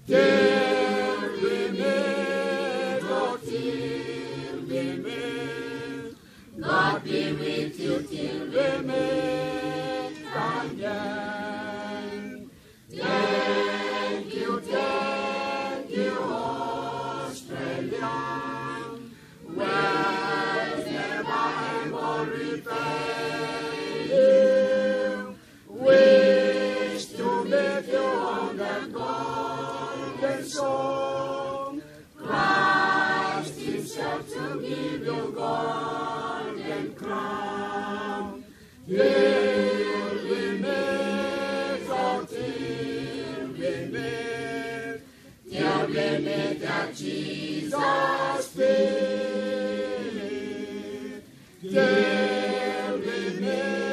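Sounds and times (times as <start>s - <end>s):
a cappella choir singing: 0.0s - 53.9s.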